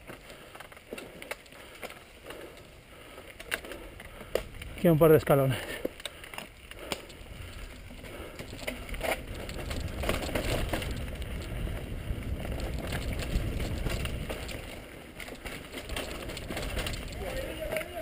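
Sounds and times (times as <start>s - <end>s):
bike rattling over bumps: 0.0s - 18.0s
tyres rumbling on dirt: 3.4s - 18.0s.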